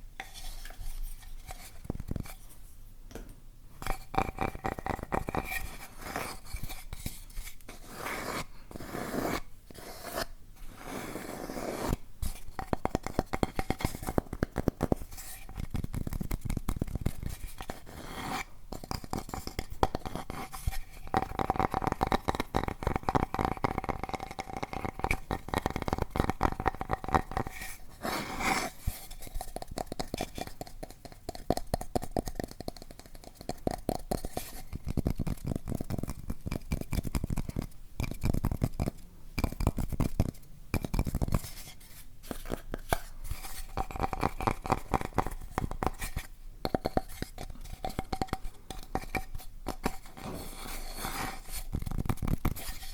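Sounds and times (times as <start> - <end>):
hands scratching crinkly object: 3.8 - 52.9.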